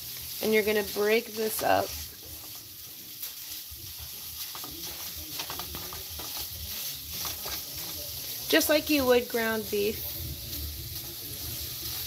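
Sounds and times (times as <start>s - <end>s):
meat sizzling softly: 0.0s - 12.0s
wooden spoon scraping a pan: 0.4s - 12.0s.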